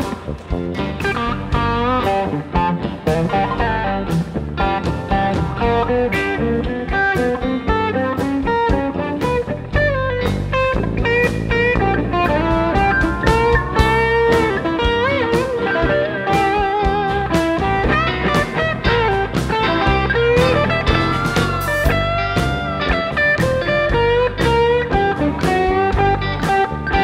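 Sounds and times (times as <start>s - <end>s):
bass: 0.0s - 27.0s
drum beat: 0.0s - 27.0s
electric guitar lead: 0.0s - 27.0s.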